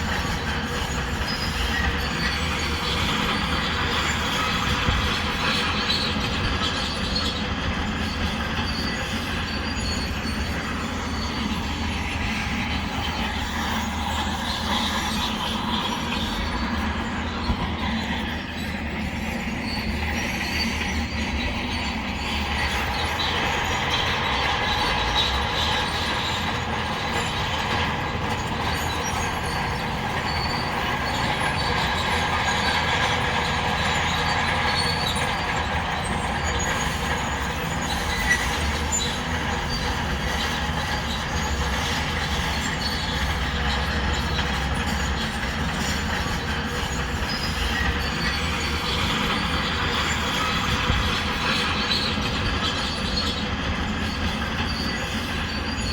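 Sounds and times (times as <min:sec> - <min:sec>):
diesel engine under load: 0:00.0 - 0:55.9
steel tracks squealing and clanking: 0:00.0 - 0:55.9.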